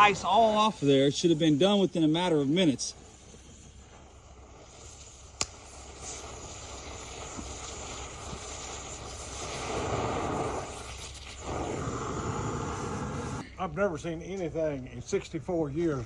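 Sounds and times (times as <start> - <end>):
propane torch flame hissing: 0.0 - 13.5.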